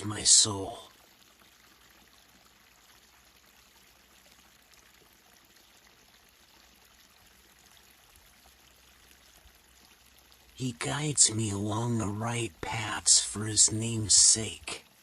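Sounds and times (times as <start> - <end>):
faint babbling stream: 0.0 - 15.0.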